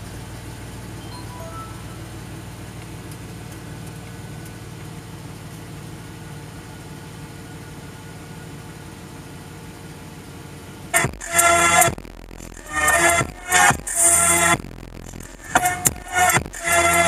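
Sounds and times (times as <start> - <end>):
car engine idling: 0.0 - 1.1, 1.9 - 17.0.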